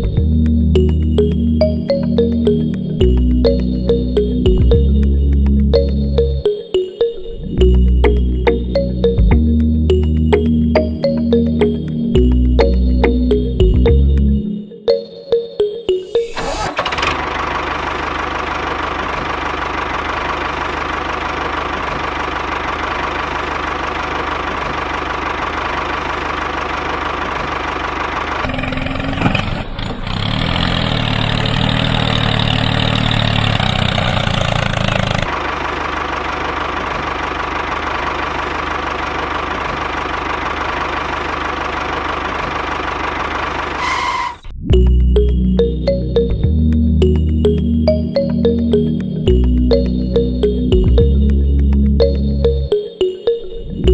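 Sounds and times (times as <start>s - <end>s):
tractor engine running: 0.0s - 6.6s, 7.6s - 15.0s, 16.3s - 52.8s.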